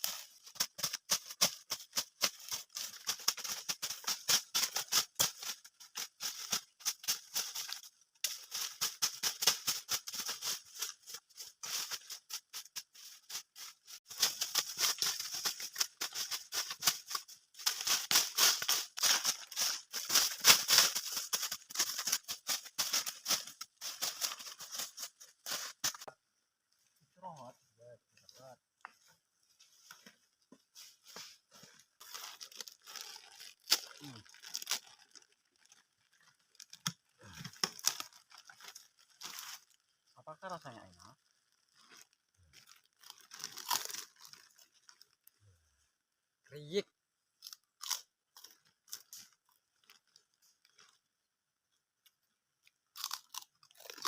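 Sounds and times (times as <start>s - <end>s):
dry leaves and twigs crackling: 0.0s - 27.0s, 28.0s - 45.4s, 47.4s - 51.0s, 52.0s - 54.0s.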